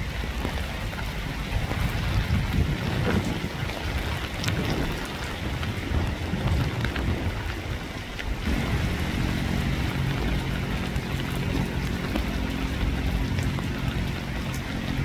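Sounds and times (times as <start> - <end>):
low motor hum: 0.0 - 15.0
rain falling: 0.0 - 15.0.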